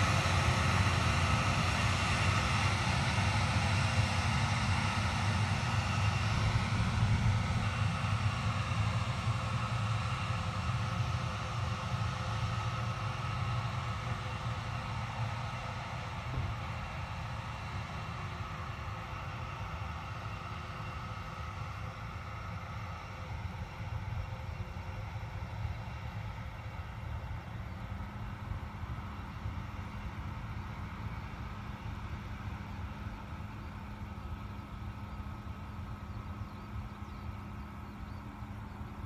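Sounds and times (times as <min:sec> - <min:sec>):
jet engine high whine: 0:00.0 - 0:39.0
jet engines low rumble: 0:00.0 - 0:39.0.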